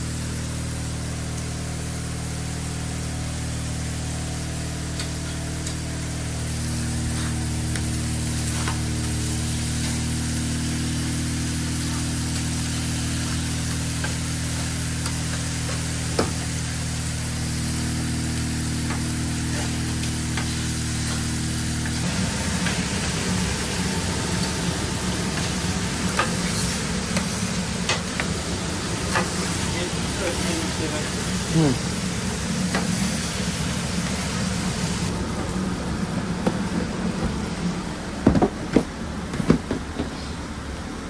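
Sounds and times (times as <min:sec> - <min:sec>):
food sizzling on griddle: 0:00.0 - 0:37.8
steady mechanical hum: 0:00.0 - 0:41.0.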